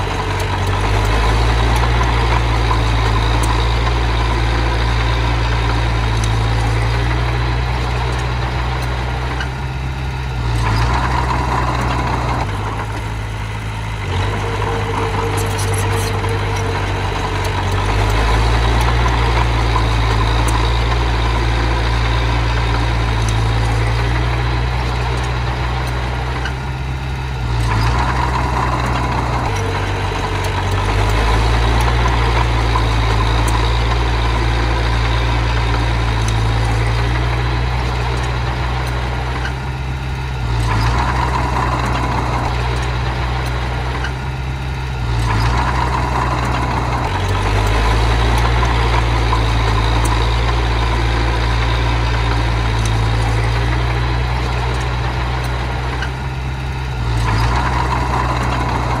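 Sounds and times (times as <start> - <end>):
machinery engine under load: 0.0 - 59.0.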